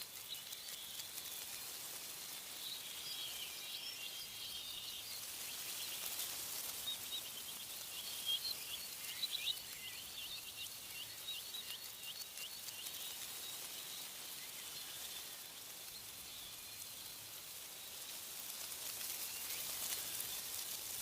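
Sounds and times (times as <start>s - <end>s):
songbird singing: 0.0s - 18.2s
wind in the trees: 0.0s - 21.0s.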